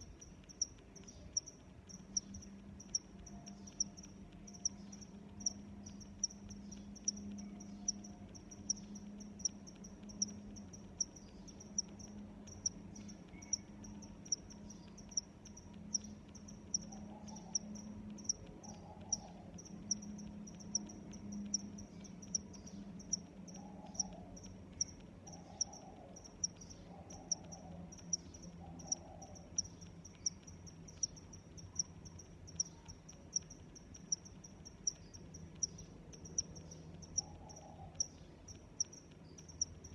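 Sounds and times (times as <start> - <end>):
cricket chirping: 0.0 - 39.9
faint low steady hum: 0.0 - 39.9.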